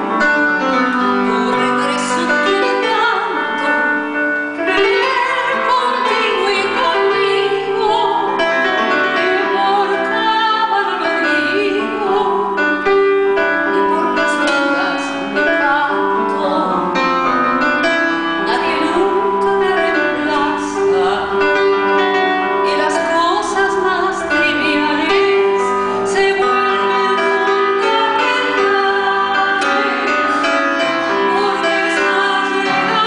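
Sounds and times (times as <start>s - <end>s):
piano accompaniment: 0.0s - 33.0s.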